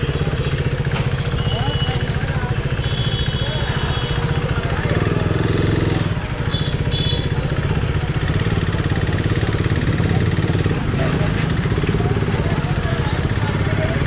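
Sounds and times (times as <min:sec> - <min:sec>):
motorcycle engine idling: 0:00.0 - 0:14.0
street chatter: 0:00.0 - 0:14.0.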